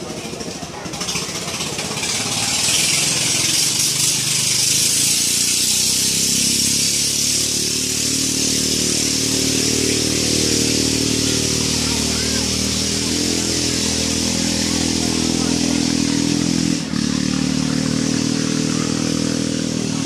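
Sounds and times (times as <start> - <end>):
motor engine running: 0.0 - 20.0.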